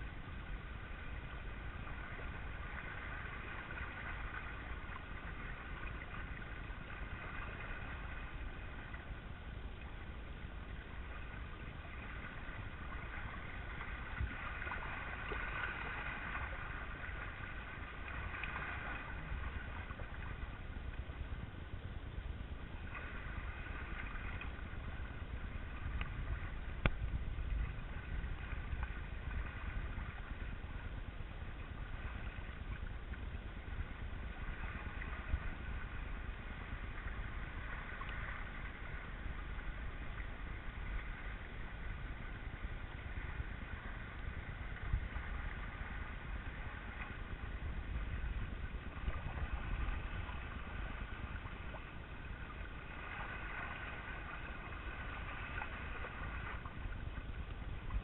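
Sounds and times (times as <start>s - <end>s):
faint steady hum: 0.0s - 58.0s
water rushing along hulls: 0.0s - 58.0s
wind rumbling on microphone: 0.0s - 58.0s.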